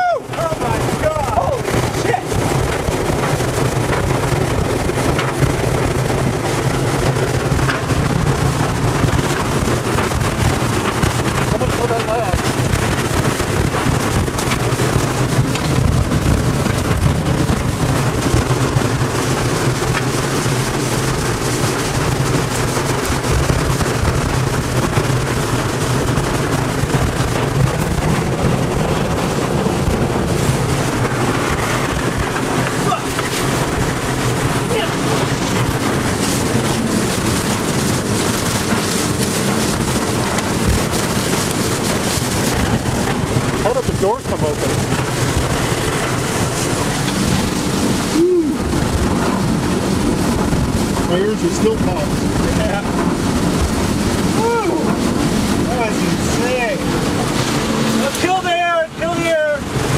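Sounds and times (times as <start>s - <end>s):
tornado winds roaring: 0.0s - 59.9s.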